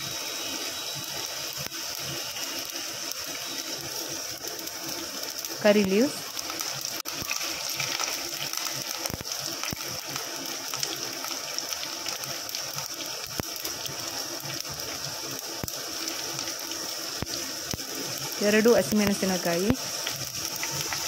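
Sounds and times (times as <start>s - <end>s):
sharp popping of frying seeds: 0.0s - 21.0s
spices sizzling in hot oil: 0.0s - 21.0s.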